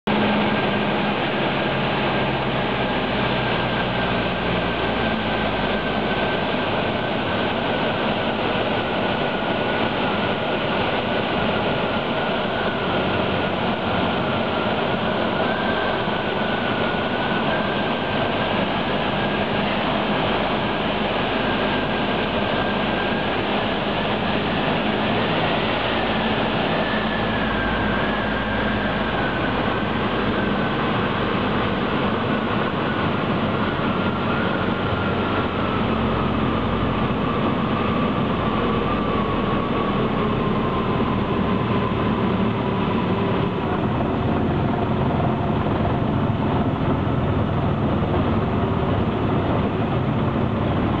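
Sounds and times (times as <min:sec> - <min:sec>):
aircraft engine and propeller drone: 0:00.0 - 0:51.0
rushing air: 0:00.1 - 0:51.0.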